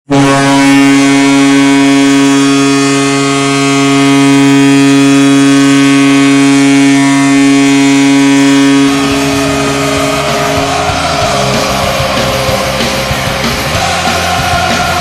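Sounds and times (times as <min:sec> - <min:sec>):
goal horn blast: 0:00.1 - 0:15.0.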